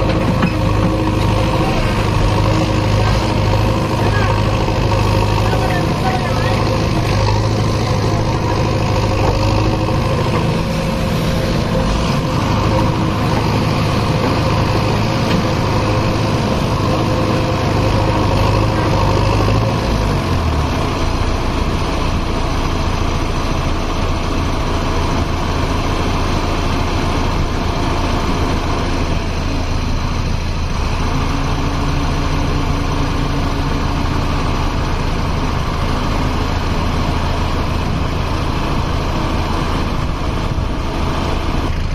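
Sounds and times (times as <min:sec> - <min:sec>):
backhoe diesel engine running: 0:00.0 - 0:41.9.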